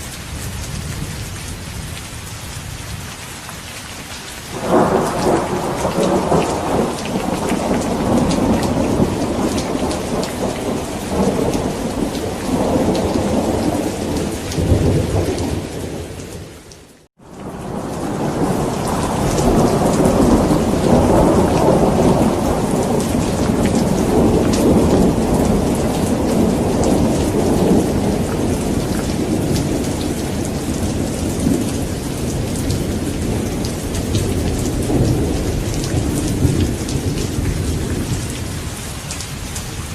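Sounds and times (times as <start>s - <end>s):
steady rain: 0.0s - 39.9s
thunder rumbling: 4.5s - 16.5s, 17.3s - 39.9s.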